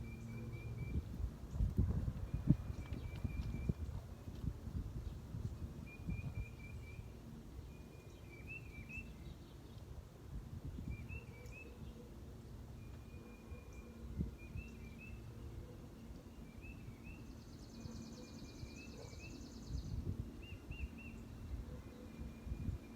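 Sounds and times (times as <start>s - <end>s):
low outdoor rumble: 0.0s - 18.7s.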